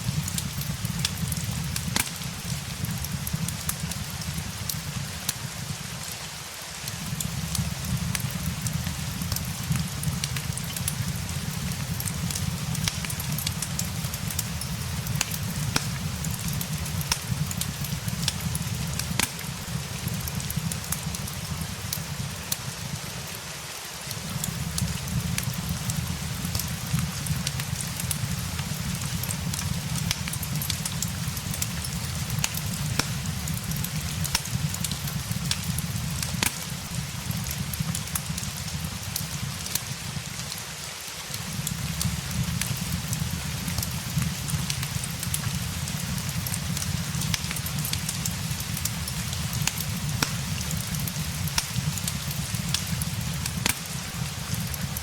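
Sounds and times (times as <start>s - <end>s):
fireplace crackling and popping: 0.0s - 55.0s
steady rain hiss: 0.0s - 55.0s.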